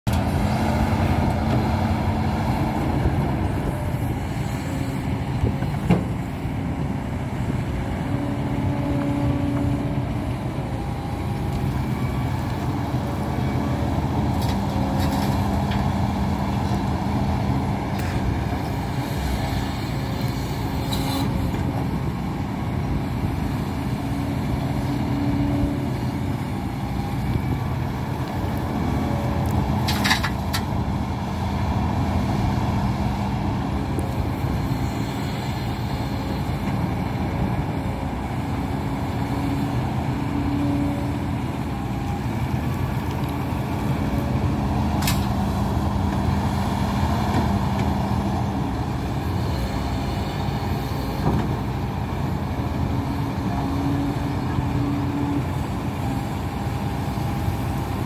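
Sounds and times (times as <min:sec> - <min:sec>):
excavator diesel engine and hydraulics: 0:00.1 - 0:58.0.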